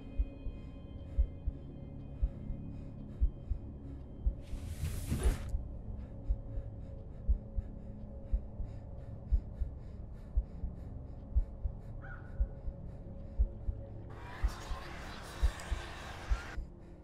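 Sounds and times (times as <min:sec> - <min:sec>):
heartbeat thumps: 0:00.1 - 0:14.8.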